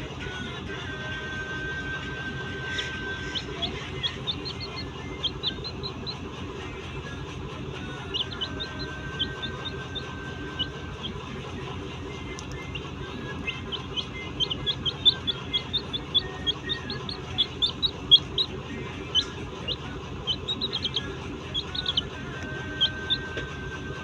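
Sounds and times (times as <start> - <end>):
pet birds chirping: 2.4 - 24.0.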